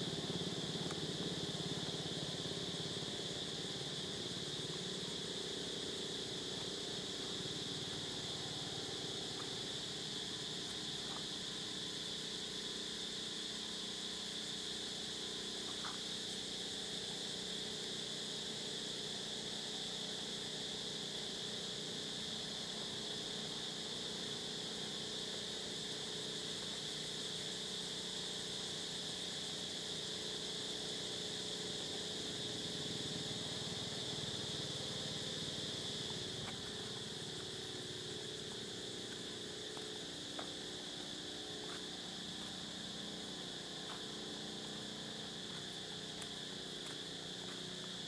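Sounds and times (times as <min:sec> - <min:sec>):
high-pitched hiss: 0:00.0 - 0:48.0.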